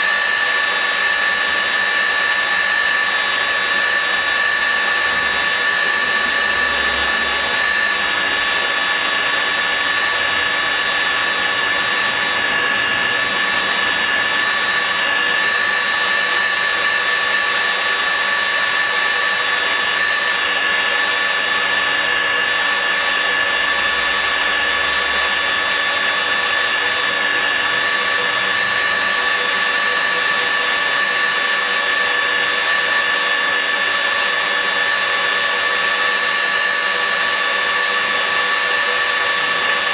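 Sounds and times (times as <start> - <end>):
magnetic drill motor whining: 0.0 - 39.9.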